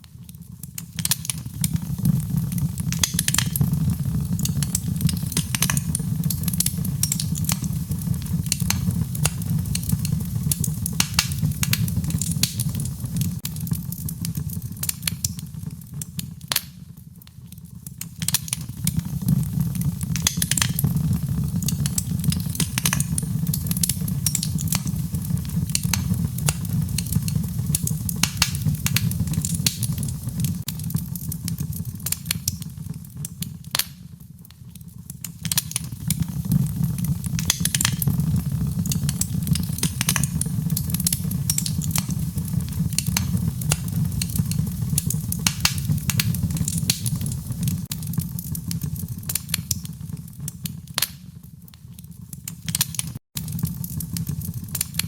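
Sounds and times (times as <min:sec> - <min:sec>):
wood fire crackling: 0:00.0 - 0:55.0
low rumble of flames: 0:00.1 - 0:55.0.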